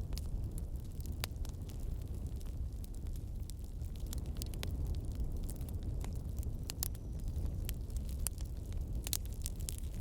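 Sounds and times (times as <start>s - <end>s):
burning wood crackling pops: 0.0s - 10.0s
low rumble of flames: 0.0s - 10.0s.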